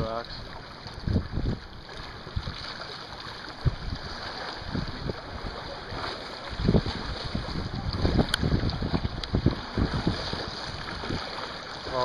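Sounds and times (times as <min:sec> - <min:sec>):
open water: 0:00.0 - 0:12.0
wind buffeting microphone: 0:00.0 - 0:12.0.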